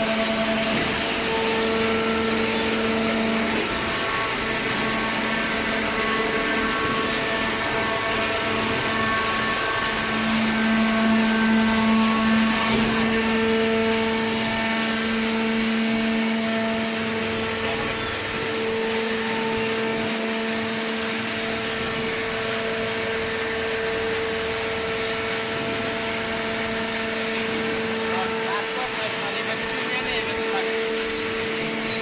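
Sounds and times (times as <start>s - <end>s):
baler machine humming: 0.0s - 32.0s.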